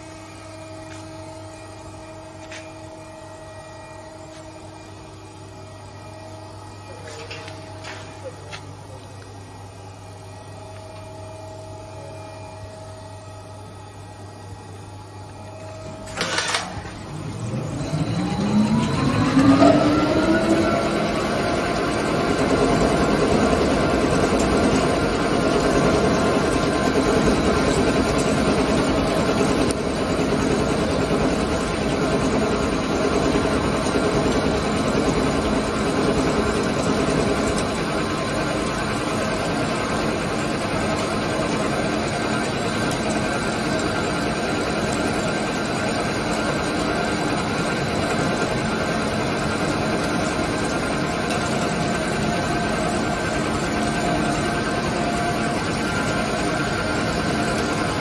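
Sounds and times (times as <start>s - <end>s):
lathe spindle whine: 0.0s - 58.0s.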